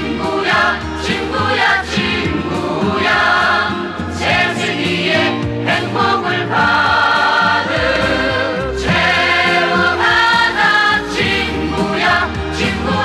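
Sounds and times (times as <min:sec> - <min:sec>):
musical accompaniment: 0:00.0 - 0:13.0
voices singing: 0:00.0 - 0:13.0.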